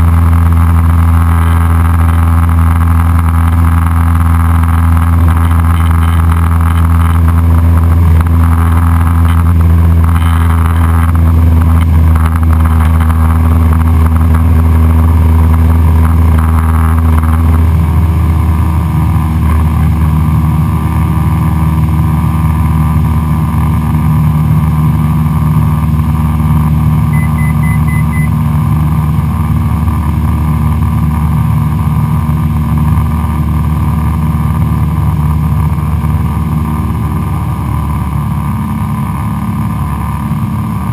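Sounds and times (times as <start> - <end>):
aircraft engine and propeller droning: 0.0 - 40.9.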